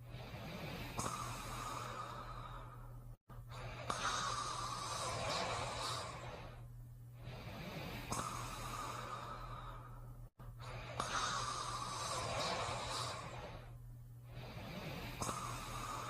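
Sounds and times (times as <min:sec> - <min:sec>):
whistling snoring breaths: 0:00.0 - 0:02.8, 0:03.5 - 0:10.0, 0:10.6 - 0:16.0.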